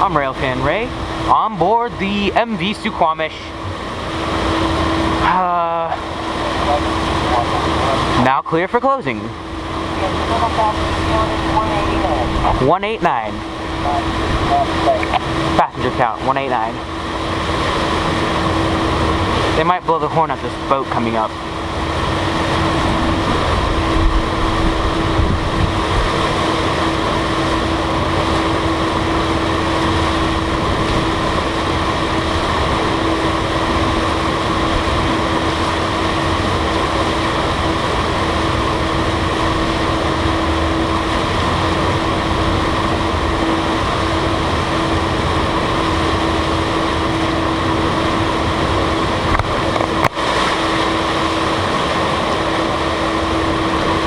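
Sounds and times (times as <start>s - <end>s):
ferry hum tone: 0.0s - 54.0s
ship engine rush: 0.0s - 54.0s
water rushing: 0.0s - 54.0s
wind: 0.0s - 54.0s.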